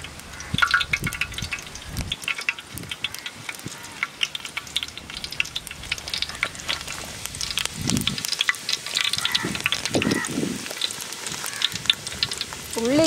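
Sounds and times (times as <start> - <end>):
shallot sizzling in hot oil: 0.0 - 13.0.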